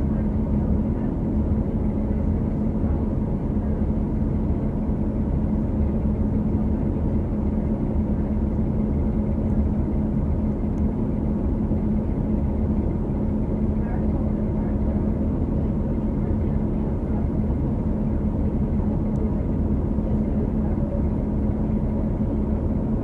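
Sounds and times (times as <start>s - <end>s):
bus engine low drone: 0.0s - 23.0s.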